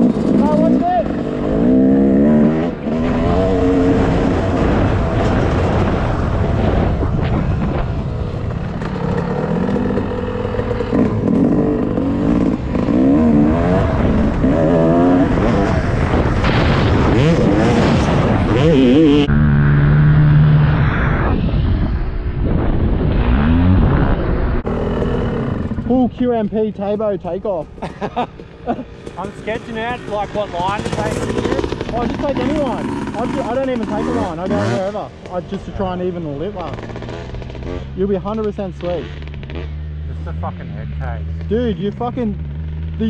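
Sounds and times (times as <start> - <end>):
dirt bike engine revving: 0.0 - 21.2, 22.5 - 26.9, 27.7 - 43.0.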